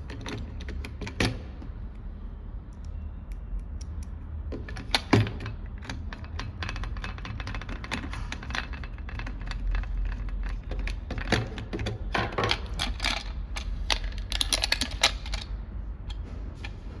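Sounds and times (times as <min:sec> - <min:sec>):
small hard parts clicking and rattling: 0:00.0 - 0:01.8, 0:02.7 - 0:17.0.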